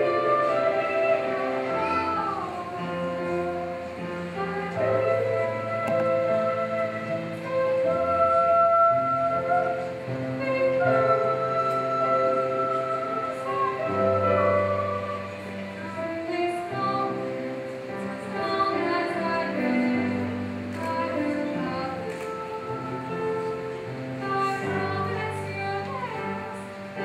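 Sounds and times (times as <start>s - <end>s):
operatic singing with classical music: 0.0s - 27.0s.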